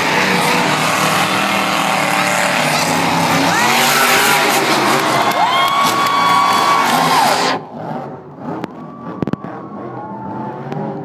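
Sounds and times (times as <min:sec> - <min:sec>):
truck engines revving loudly: 0:00.0 - 0:11.0.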